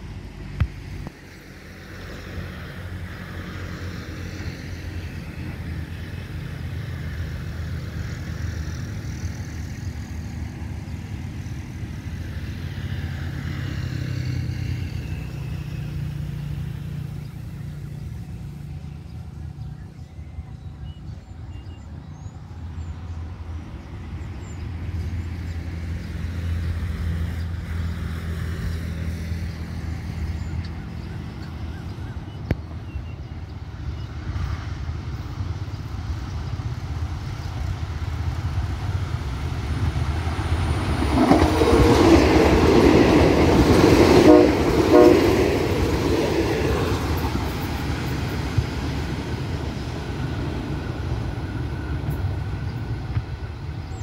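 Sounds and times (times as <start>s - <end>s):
low engine rumble: 0.0s - 54.0s
vehicles passing by: 0.0s - 54.0s.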